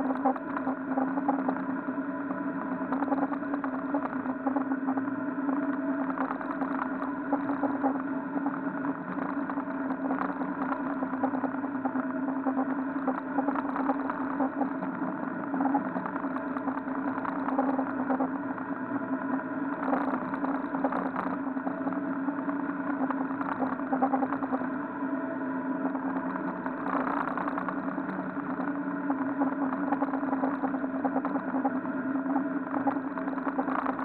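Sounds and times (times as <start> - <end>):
boat engine running: 2.4 - 34.0.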